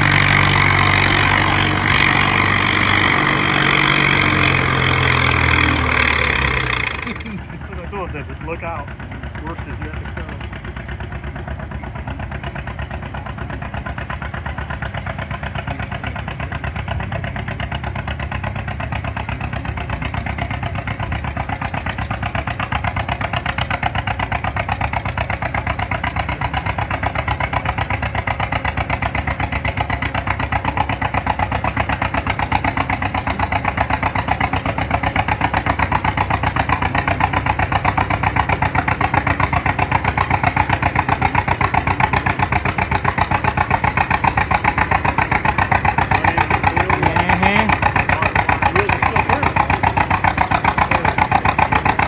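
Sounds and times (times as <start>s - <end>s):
tractor engine popping: 0.0s - 52.0s.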